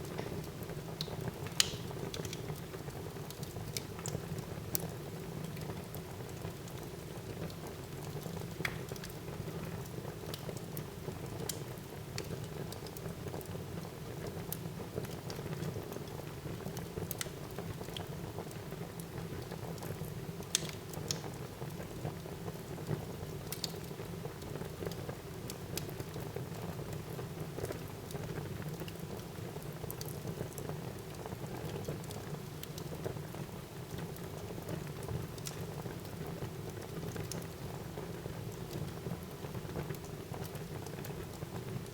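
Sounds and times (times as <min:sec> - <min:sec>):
fire crackling and popping: 0:00.0 - 0:13.4, 0:14.2 - 0:26.3, 0:27.0 - 0:37.7.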